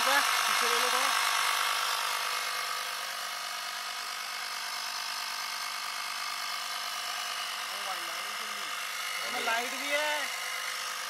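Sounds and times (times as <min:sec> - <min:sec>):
tyre inflator compressor buzzing: 0:00.0 - 0:11.0.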